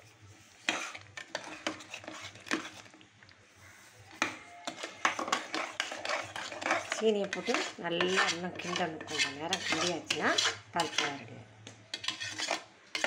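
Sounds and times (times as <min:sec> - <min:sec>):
spoon scraping metal pan: 0:00.6 - 0:03.0, 0:04.1 - 0:11.3, 0:11.9 - 0:13.0.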